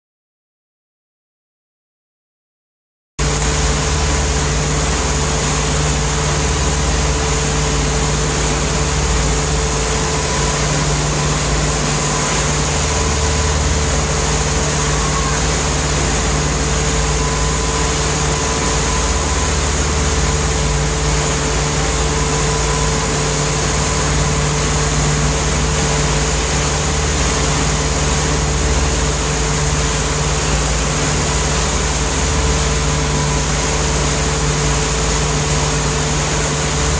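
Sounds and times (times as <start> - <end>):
churning wake water: 3.2 - 36.9
motorboat engine drone: 3.2 - 36.9.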